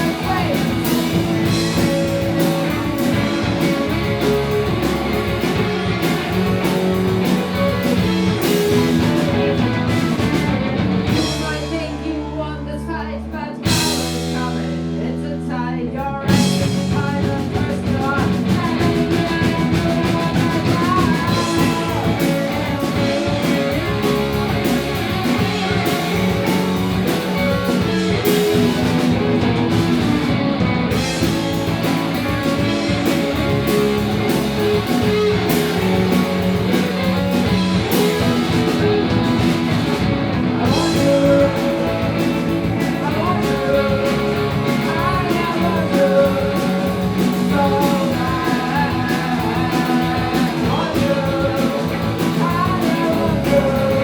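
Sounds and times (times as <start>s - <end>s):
person singing: 0.0s - 10.4s, 11.0s - 29.7s, 30.9s - 54.0s
drum kit: 0.0s - 12.4s, 13.6s - 15.2s, 16.2s - 54.0s
electric guitars: 0.0s - 54.0s.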